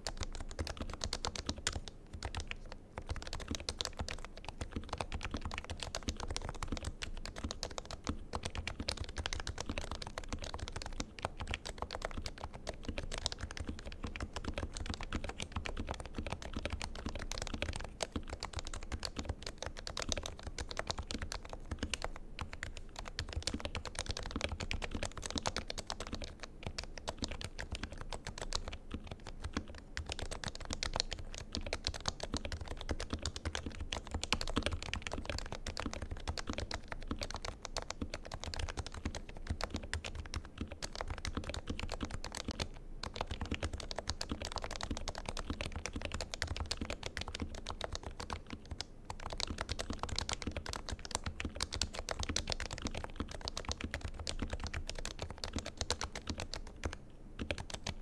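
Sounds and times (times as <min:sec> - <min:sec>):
fast keyboard typing: 0:00.0 - 0:58.0.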